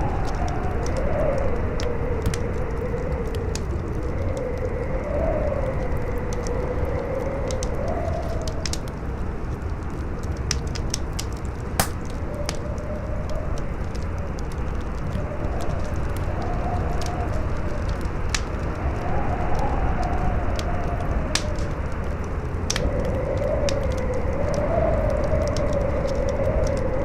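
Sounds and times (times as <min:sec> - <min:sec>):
howling wind: 0:00.0 - 0:27.0
campfire crackling and popping: 0:00.1 - 0:27.0.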